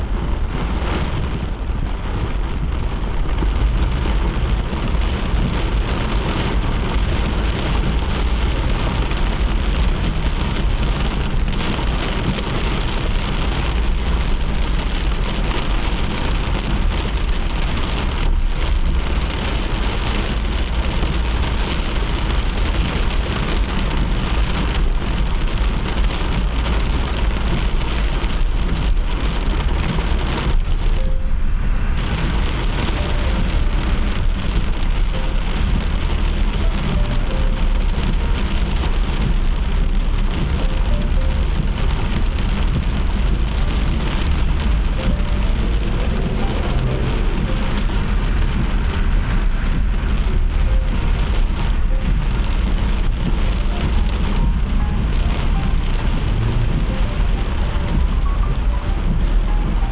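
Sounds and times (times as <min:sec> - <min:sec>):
car engine rumble: 0:00.0 - 0:59.9
rain hiss: 0:00.0 - 0:59.9
wet road noise: 0:00.0 - 0:59.9.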